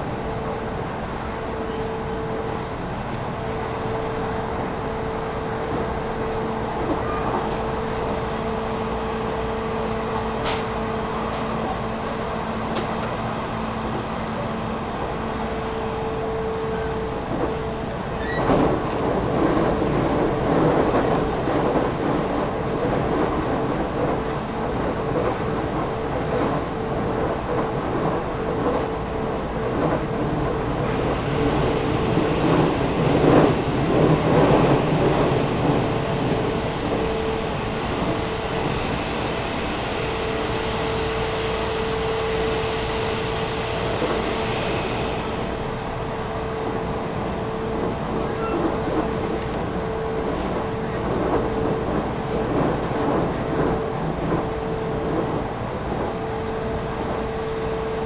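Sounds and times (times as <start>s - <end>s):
electric train running rumble: 0.0s - 58.0s.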